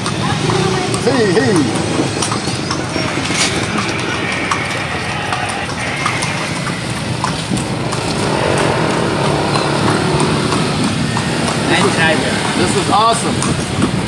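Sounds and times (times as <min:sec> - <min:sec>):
hooves clip-clopping on concrete: 0:00.0 - 0:14.0
motor engine running: 0:00.0 - 0:14.0.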